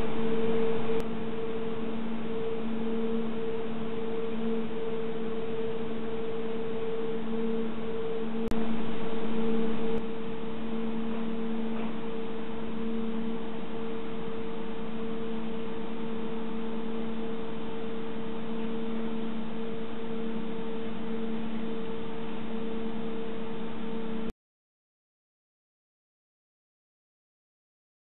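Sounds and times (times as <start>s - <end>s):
electric pump humming: 0.0s - 24.3s.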